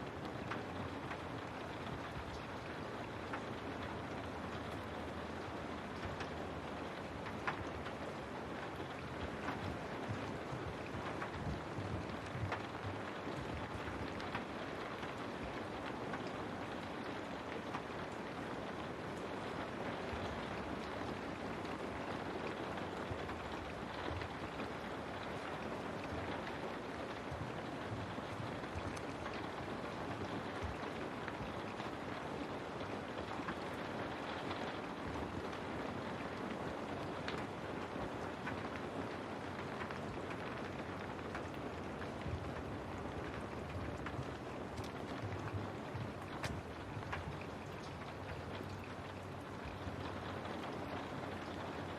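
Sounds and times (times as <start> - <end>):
rain on window pane: 0.0 - 51.9.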